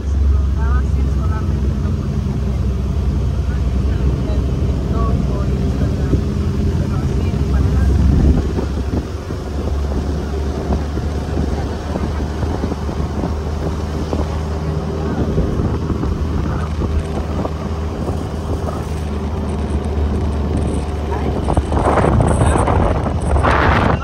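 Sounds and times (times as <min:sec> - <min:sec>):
road or wind noise: 0:00.0 - 0:24.0
vehicle engine droning: 0:00.0 - 0:24.0.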